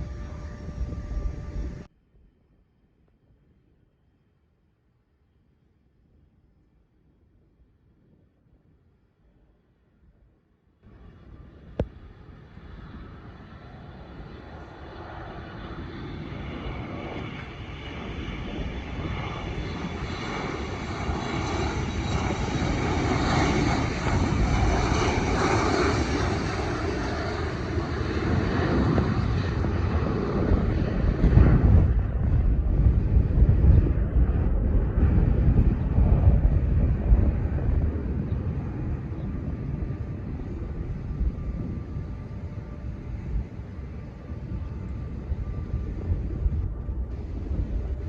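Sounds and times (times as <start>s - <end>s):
airplane engines whining: 0.0s - 1.9s, 10.9s - 48.0s.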